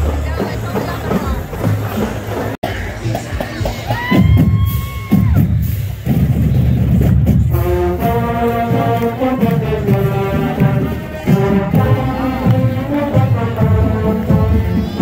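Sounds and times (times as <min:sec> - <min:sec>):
low drum beats: 0:00.0 - 0:15.0
marching band playing: 0:00.0 - 0:15.0.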